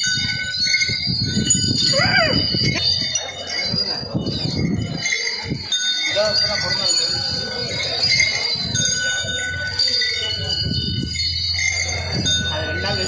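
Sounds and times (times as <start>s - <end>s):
small bells jingling: 0.0s - 13.0s.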